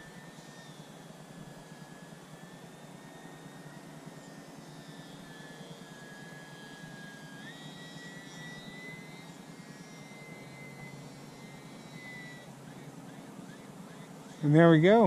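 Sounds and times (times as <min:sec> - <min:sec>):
rc plane motor whining: 0:00.0 - 0:15.0.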